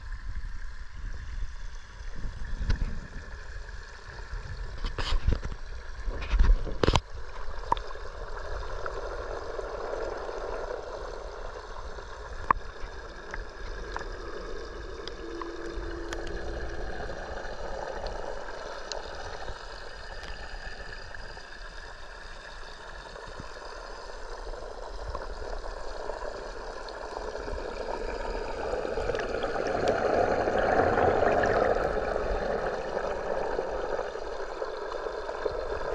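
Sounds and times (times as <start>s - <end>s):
aquarium water gurgling: 0.0s - 35.9s.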